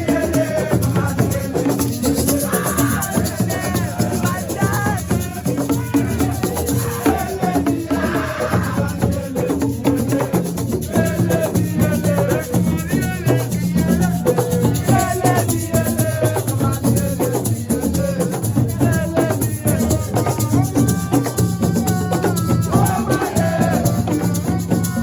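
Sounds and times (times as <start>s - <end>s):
rattling percussion beat: 0.0s - 25.0s.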